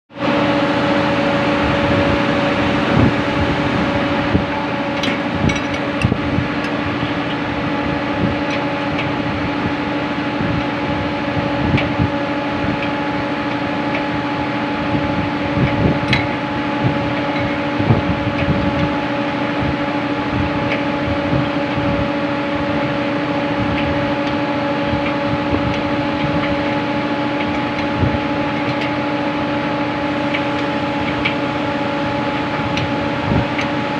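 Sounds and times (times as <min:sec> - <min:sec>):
engine room machinery humming: 0:00.1 - 0:33.9.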